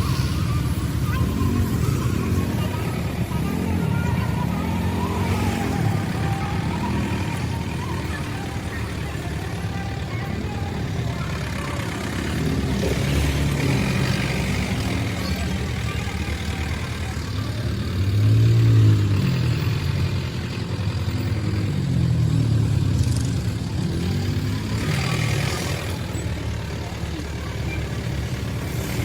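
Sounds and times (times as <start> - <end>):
road noise: 0.0 - 29.0
vehicle engine revving: 0.0 - 29.0.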